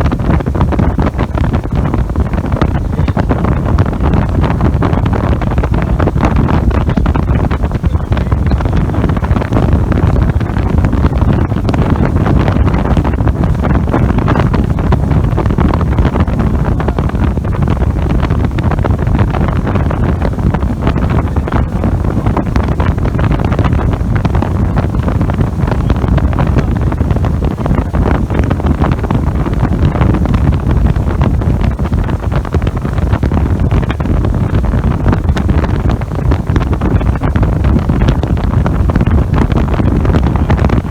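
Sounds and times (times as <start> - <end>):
boat motor: 0.0 - 40.9
wind buffeting microphone: 0.0 - 40.9.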